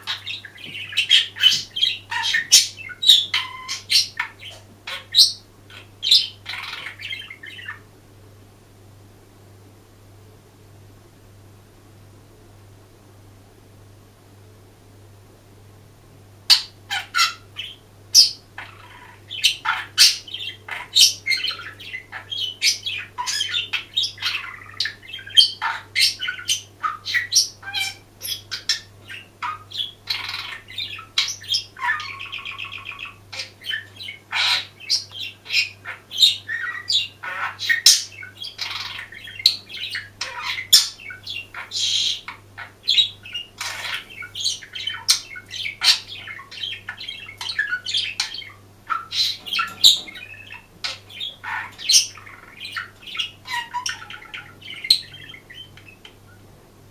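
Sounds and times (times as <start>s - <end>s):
budgerigar warbling: 0.0s - 7.8s, 16.5s - 56.1s.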